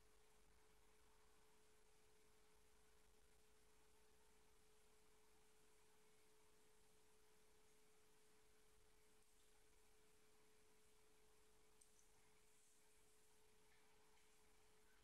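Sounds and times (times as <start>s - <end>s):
thin steady tone: 0.0s - 15.0s.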